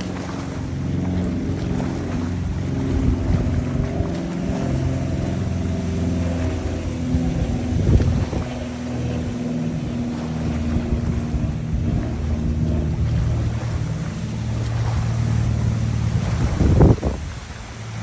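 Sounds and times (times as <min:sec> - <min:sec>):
steady low drone: 0:00.0 - 0:18.0
wind buffeting microphone: 0:00.0 - 0:18.0.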